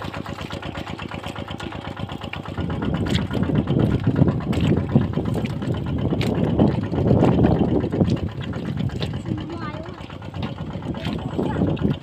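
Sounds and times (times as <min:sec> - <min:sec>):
small pump engine running: 0:00.0 - 0:12.0.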